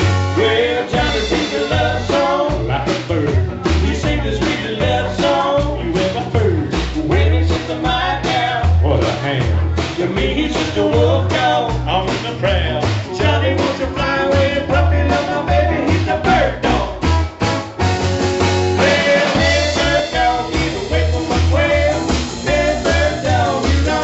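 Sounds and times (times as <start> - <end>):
bass notes: 0.0 - 24.0
country band playing: 0.0 - 24.0
drum hits: 0.0 - 24.0
sliding lead guitar line: 0.0 - 24.0.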